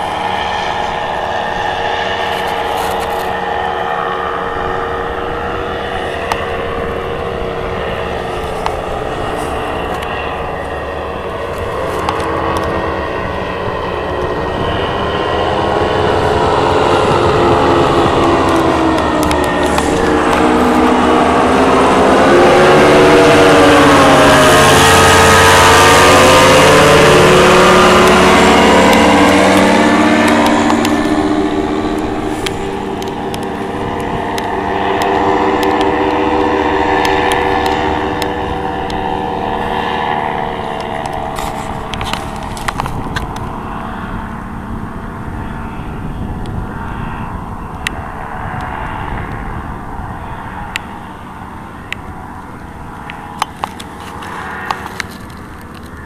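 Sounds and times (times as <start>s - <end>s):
paramotor engine and propeller drone: 0.0s - 56.0s
wind rumbling on microphone: 0.0s - 56.0s.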